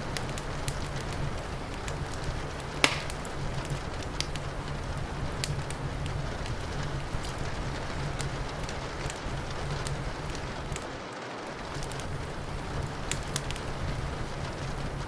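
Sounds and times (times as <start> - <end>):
rain hiss: 0.0 - 15.0
wood fire crackling and popping: 0.0 - 15.0.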